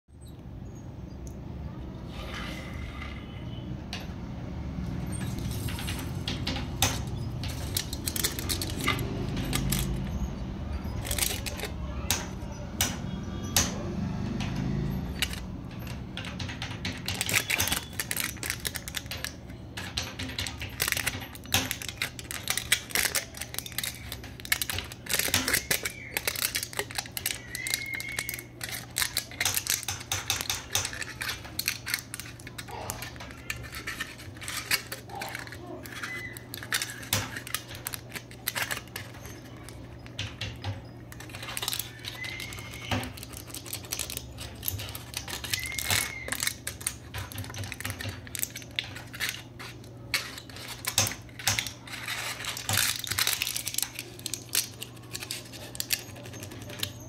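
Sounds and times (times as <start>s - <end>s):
aluminium foil crinkling: 5.2s - 10.2s, 10.9s - 12.3s, 15.1s - 57.0s.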